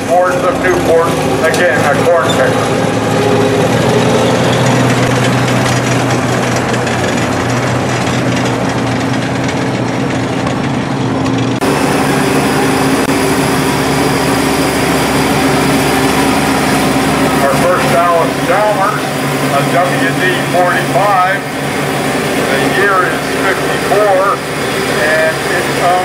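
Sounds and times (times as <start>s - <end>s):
corn picking machine engine: 0.0s - 26.0s
tractor engine running: 0.0s - 26.0s.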